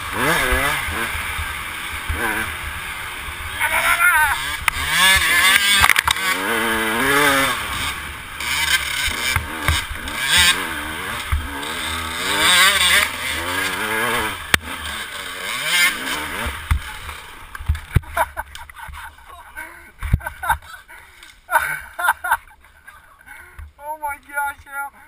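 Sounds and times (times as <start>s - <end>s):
dirt bike engine revving: 0.0s - 22.4s.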